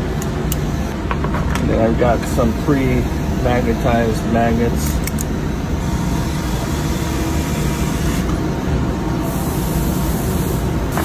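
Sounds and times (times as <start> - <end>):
steady low rumble with hiss: 0.0 - 11.0.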